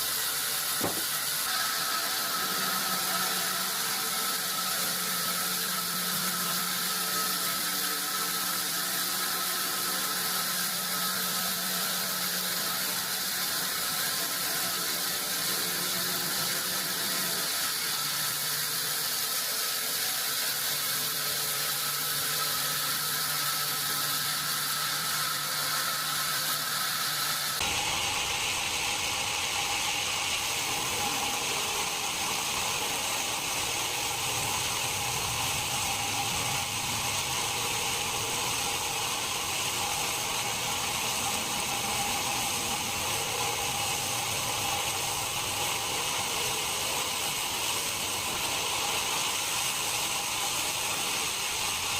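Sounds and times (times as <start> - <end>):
machinery hiss with high whine: 0.0 - 51.9.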